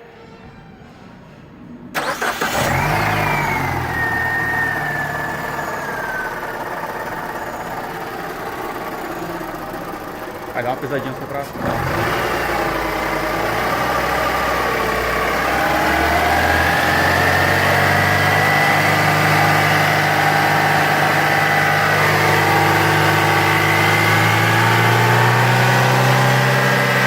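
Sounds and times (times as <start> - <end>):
car engine idling: 2.0 - 27.0.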